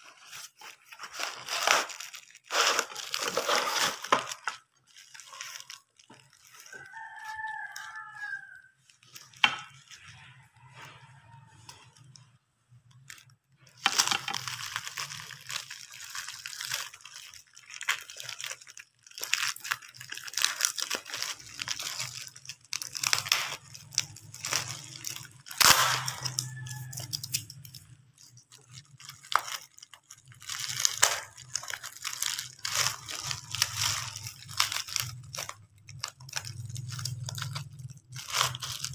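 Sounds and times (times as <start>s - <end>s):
bubble wrap and tape crinkling: 0.0s - 38.9s.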